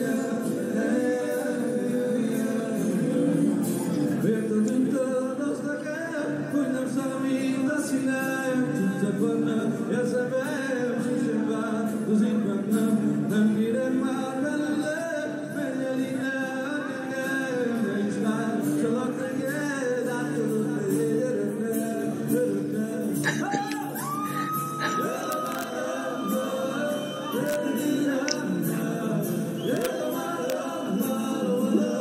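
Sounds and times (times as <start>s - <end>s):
acoustic guitar: 0.0s - 32.0s
man singing: 0.0s - 32.0s.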